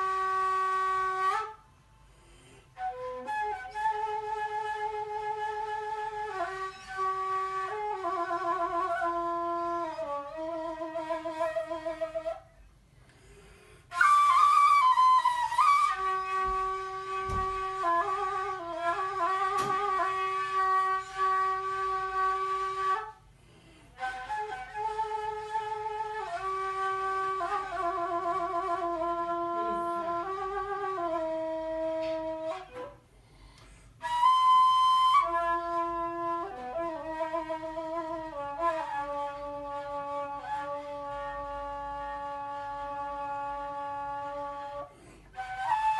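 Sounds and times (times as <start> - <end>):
wooden flute melody: 0.0 - 45.9.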